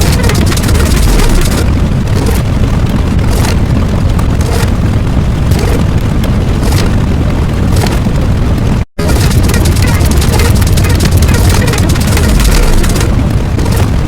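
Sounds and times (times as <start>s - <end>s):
loud continuous rumbling: 0.0s - 14.0s.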